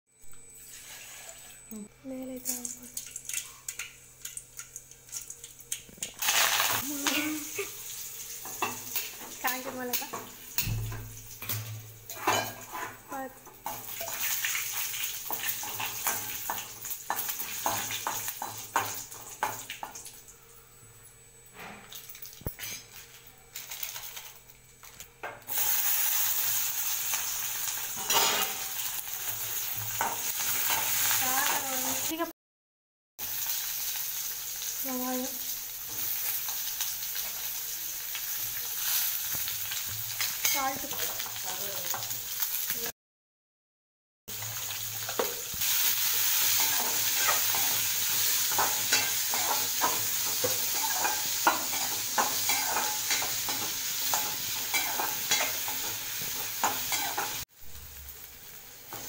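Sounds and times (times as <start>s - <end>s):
onions sizzling in hot oil: 0.5s - 1.5s, 2.3s - 20.3s, 22.0s - 32.3s, 33.2s - 42.9s, 44.3s - 59.0s.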